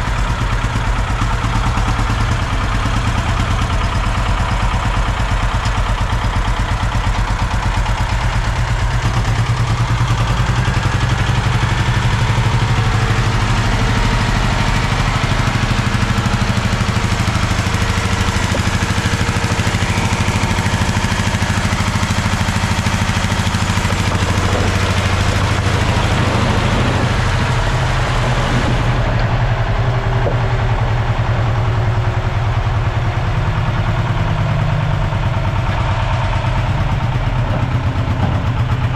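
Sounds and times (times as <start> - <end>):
machinery engine running: 0.0 - 38.9.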